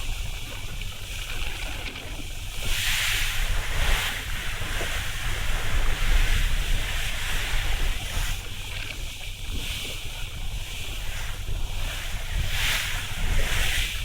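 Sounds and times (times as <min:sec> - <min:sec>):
choppy sea hissing: 0:00.0 - 0:14.0
wind buffeting microphone: 0:00.0 - 0:14.0.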